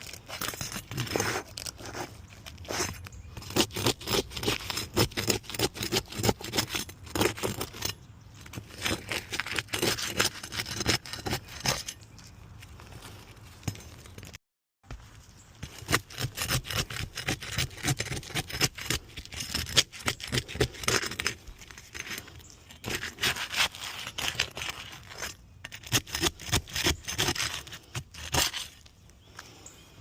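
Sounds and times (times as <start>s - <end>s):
scraping and prying at roof shingles: 0.0s - 14.4s, 15.6s - 29.6s.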